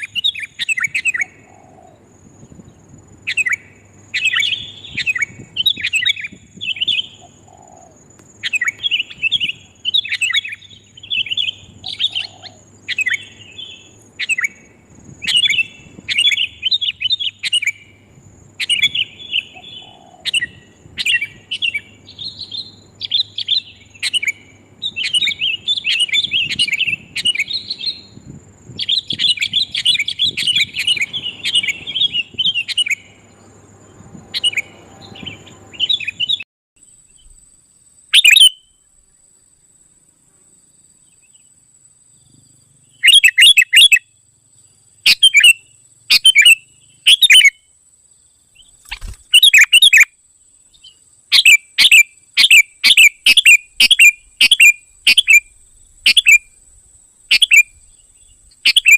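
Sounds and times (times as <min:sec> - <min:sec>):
bulbuls chirping: 0:00.0 - 0:36.4, 0:42.3 - 0:47.6, 0:48.5 - 0:58.9.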